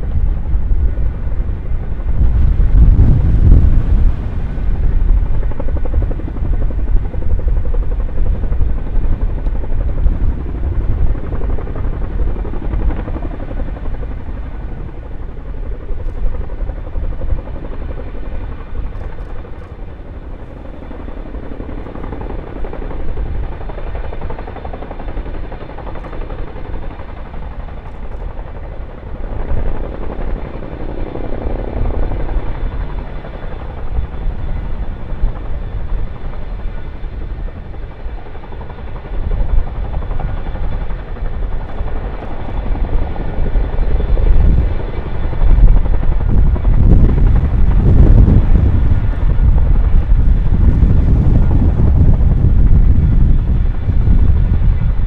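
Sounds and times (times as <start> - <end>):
helicopter rotors beating: 0.0 - 55.0.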